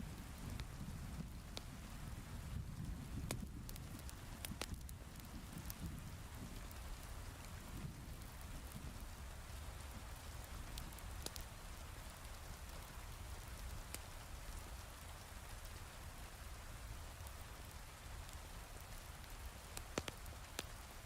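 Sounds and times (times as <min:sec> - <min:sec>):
wood fire crackles: 0:00.0 - 0:21.0.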